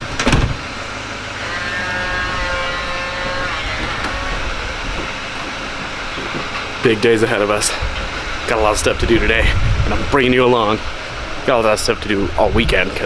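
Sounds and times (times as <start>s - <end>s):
vehicle noise: 0.0s - 13.0s.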